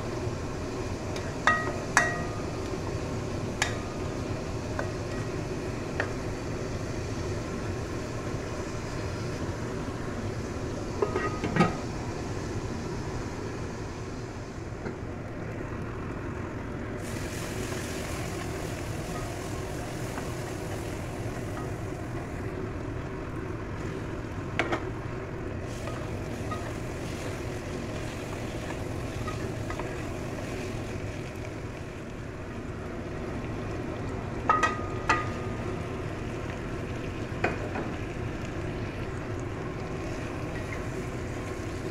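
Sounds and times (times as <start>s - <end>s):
masala frying in pan: 0.0s - 41.9s.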